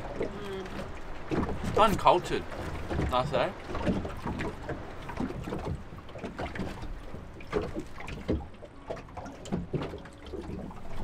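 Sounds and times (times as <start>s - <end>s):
waves lapping against boat hull: 0.0s - 11.0s.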